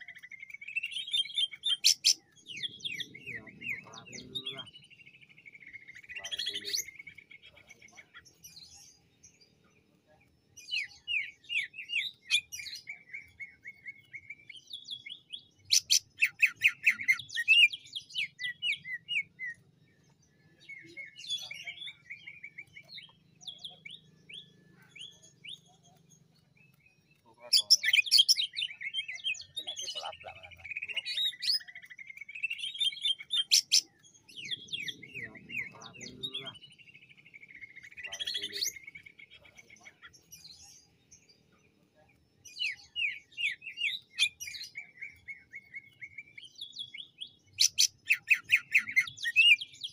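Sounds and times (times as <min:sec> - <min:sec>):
bird singing chirps and trills: 0:00.0 - 0:49.9.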